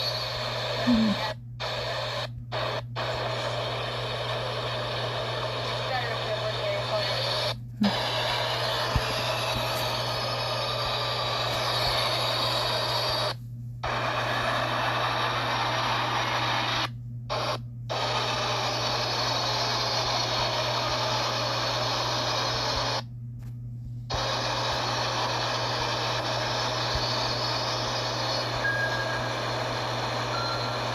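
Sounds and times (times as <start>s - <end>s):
constant low hum: 0.0s - 30.9s.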